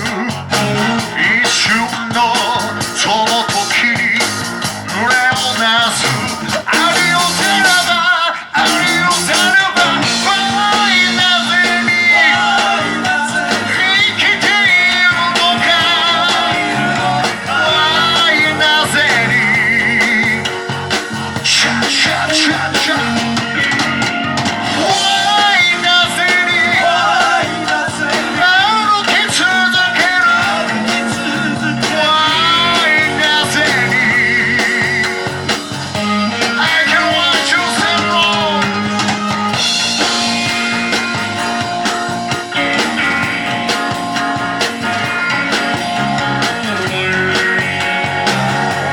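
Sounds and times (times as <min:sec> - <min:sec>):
person singing: 0:00.0 - 0:41.4
guitar: 0:00.0 - 0:48.9
live rock band playing: 0:00.0 - 0:48.9.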